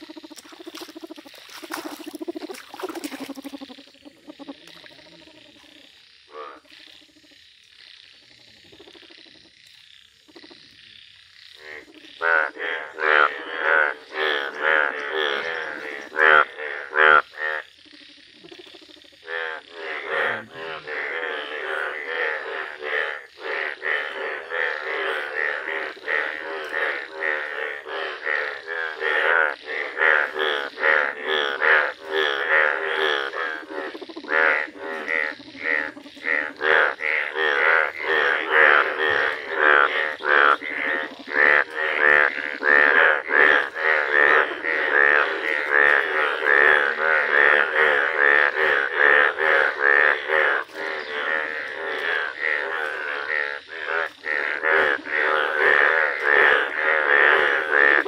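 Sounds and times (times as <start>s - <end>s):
bullfrogs croaking: 0.0s - 58.0s.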